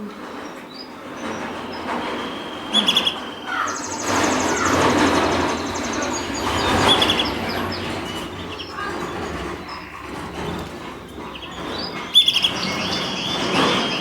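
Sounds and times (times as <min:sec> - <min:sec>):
rumbling background noise: 0:00.0 - 0:14.0
canaries chirping and trilling: 0:00.2 - 0:14.0.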